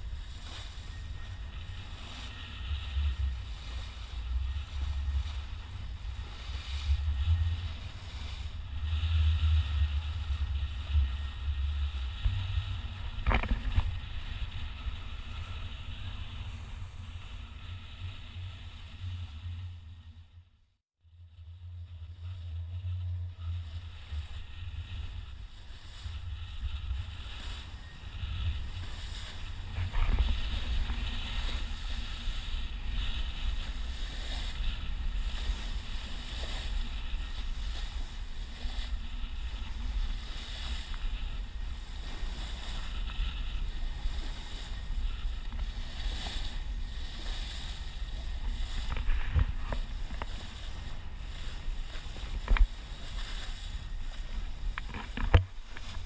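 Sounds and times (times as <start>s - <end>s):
wind buffeting microphone: 0.0s - 20.2s, 21.5s - 56.0s
deep rumble: 0.0s - 56.0s.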